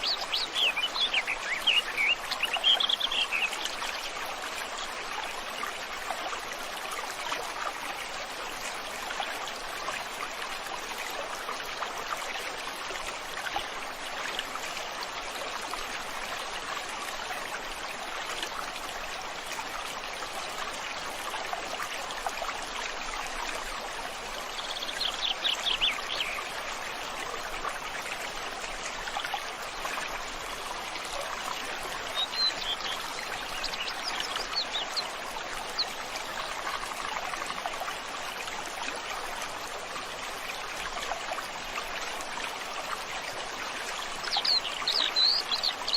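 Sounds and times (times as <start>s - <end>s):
river flowing: 0.0s - 45.9s.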